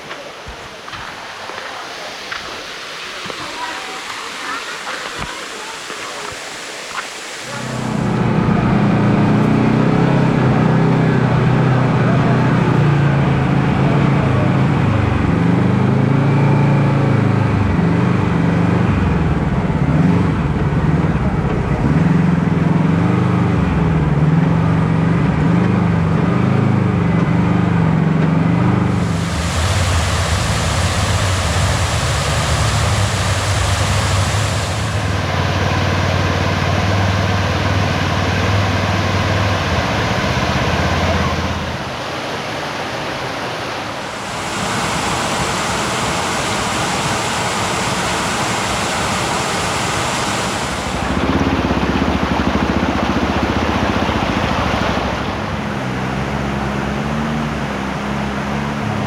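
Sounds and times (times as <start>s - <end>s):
waterfall rushing: 0.0s - 24.4s, 28.6s - 59.0s
utility vehicle engine running: 7.5s - 59.0s.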